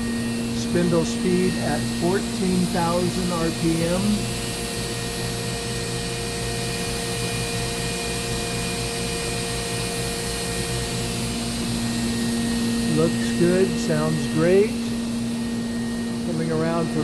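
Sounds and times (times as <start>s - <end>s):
machine spindle whine: 0.0s - 17.0s.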